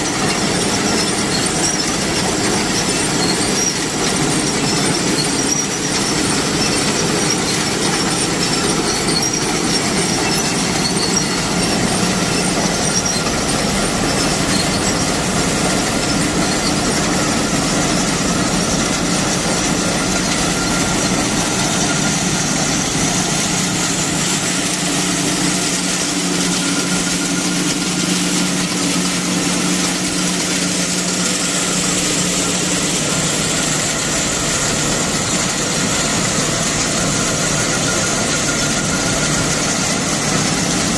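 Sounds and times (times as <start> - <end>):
harvesting machine clatter: 0.0 - 40.9.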